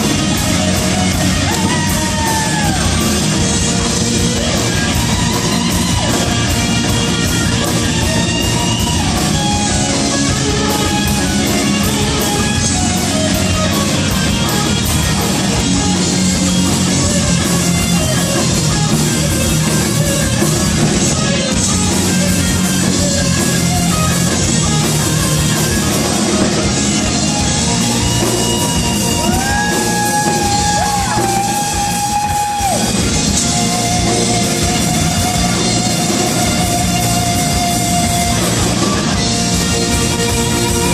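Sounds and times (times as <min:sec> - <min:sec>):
guitar: 0:00.0 - 0:40.9
live rock band music: 0:00.0 - 0:40.9.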